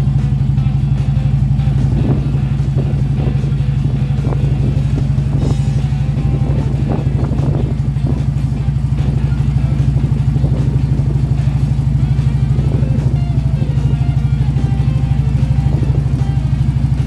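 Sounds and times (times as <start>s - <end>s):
background music: 0.0s - 17.0s
motorcycle engine running: 0.0s - 17.0s.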